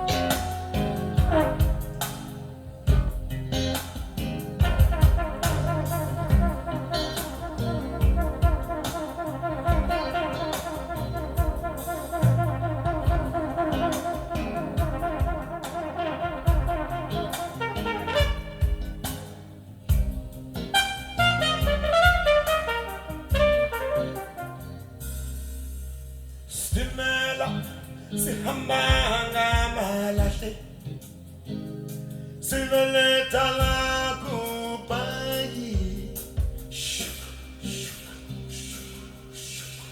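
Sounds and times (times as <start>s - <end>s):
jazz band with brass horn: 0.0s - 27.3s, 28.3s - 30.6s, 33.5s - 39.8s
drums: 0.0s - 31.2s, 33.5s - 39.9s.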